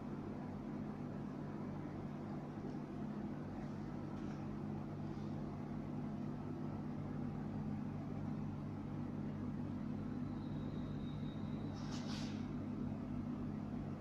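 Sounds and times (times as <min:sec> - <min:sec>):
faint high-pitched whine: 0:00.0 - 0:14.0
low machine hum: 0:00.0 - 0:14.0.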